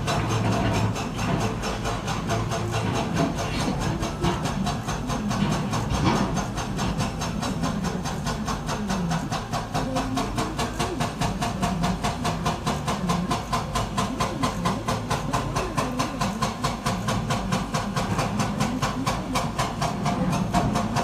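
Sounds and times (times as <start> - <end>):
excavator engine drone with clatter: 0.0 - 21.0.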